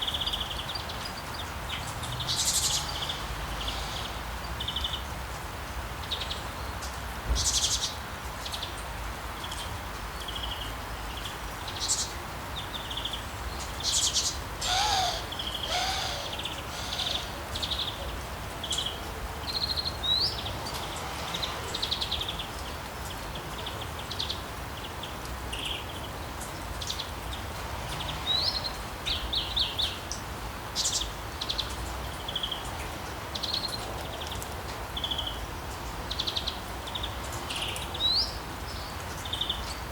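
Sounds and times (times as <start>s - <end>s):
rain hiss: 0.0s - 39.9s
songbirds chirping and trilling: 0.0s - 39.9s.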